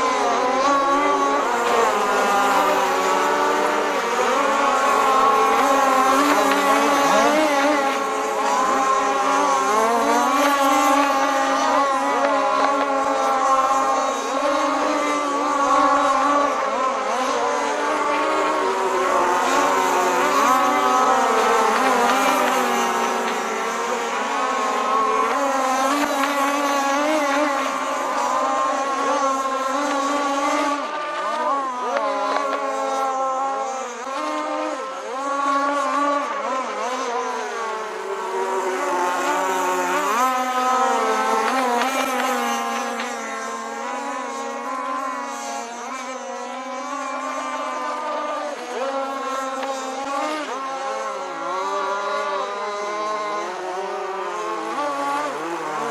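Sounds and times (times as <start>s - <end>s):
model boat motors running: 0.0s - 55.9s.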